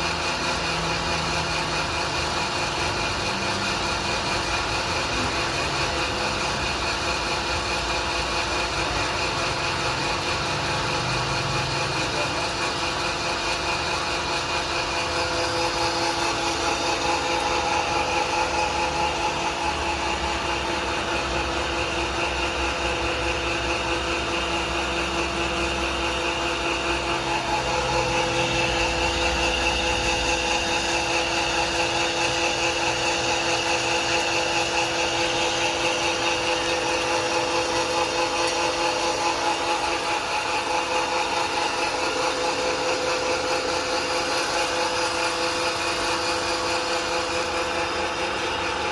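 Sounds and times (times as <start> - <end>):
pellet mill motor hum and whine: 0.0 - 48.9.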